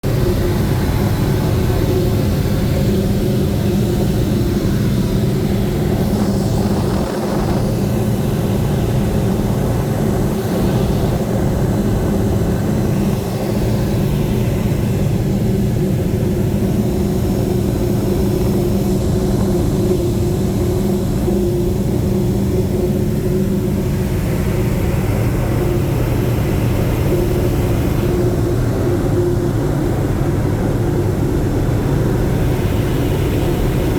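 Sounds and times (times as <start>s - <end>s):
propeller aircraft engines droning: 0.0s - 33.9s.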